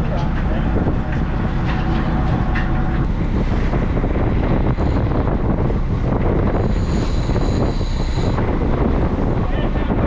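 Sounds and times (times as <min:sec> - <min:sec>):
boat engine: 0:00.0 - 0:10.0
water along hull: 0:00.0 - 0:10.0
wind on microphone: 0:00.0 - 0:10.0.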